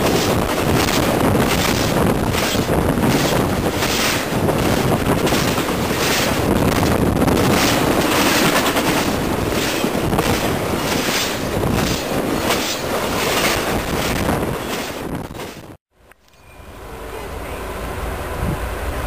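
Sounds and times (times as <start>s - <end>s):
freight train passing: 0.0s - 19.0s.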